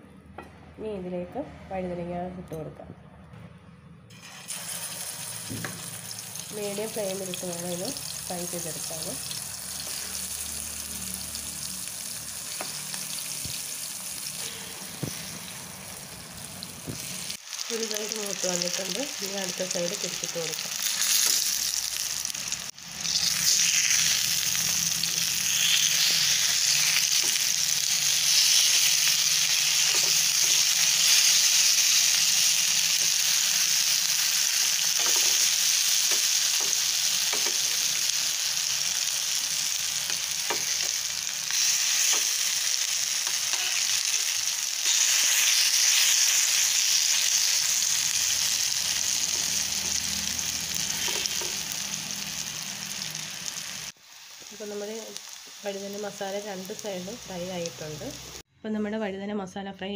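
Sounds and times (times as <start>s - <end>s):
eggplant sizzling in oil: 4.1s - 58.4s.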